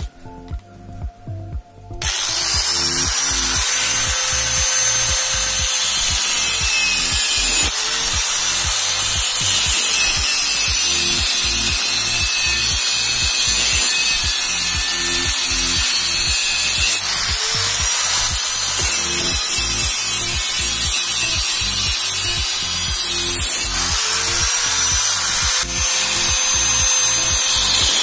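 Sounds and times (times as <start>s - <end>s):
music with steady beat: 0.0s - 28.0s
angle grinder cutting metal: 2.0s - 28.0s.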